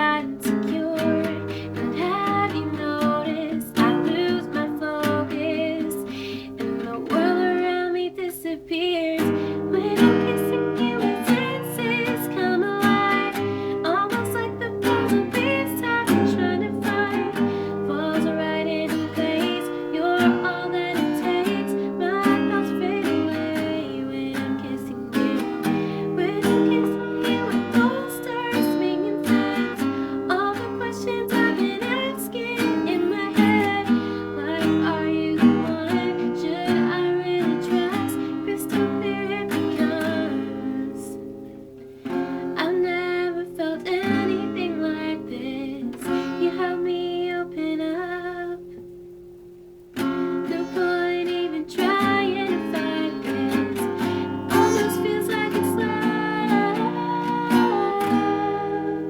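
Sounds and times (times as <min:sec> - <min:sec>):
woman singing: 0:00.0 - 0:49.0, 0:50.1 - 0:59.0
strummed acoustic guitar: 0:00.0 - 0:59.0.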